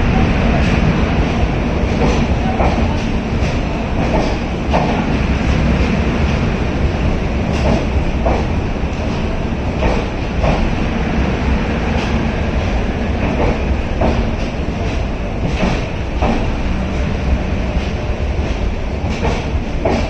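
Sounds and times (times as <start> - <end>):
train wheel clack: 0.0 - 20.0
train wheels rumbling on rails: 0.0 - 20.0.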